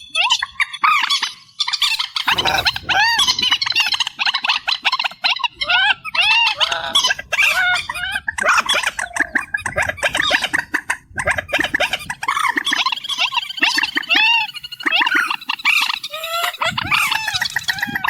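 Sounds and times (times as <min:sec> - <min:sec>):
marsh bird chattering calls: 0:01.8 - 0:18.0.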